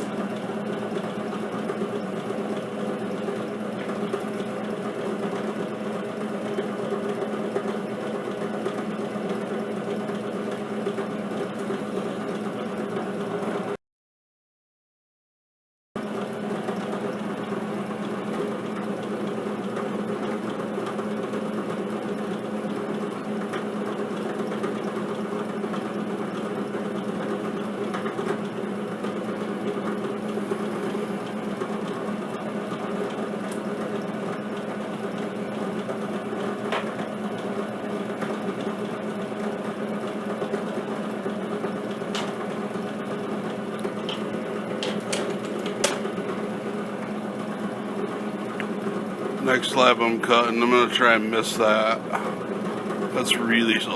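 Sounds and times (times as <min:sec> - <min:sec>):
drill press motor hum: 0:00.0 - 0:13.8, 0:16.0 - 0:53.9.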